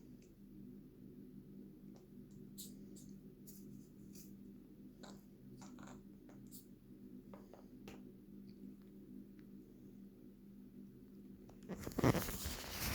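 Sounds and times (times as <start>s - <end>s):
low room hum: 0.0s - 12.9s.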